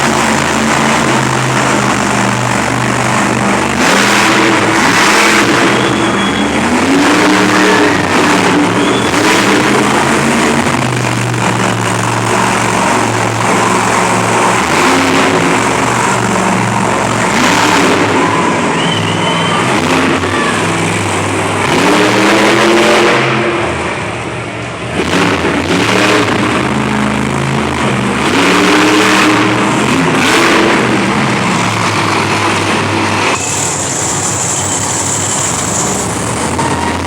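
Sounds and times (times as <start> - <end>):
monster truck engines revving: 0.0 - 37.0.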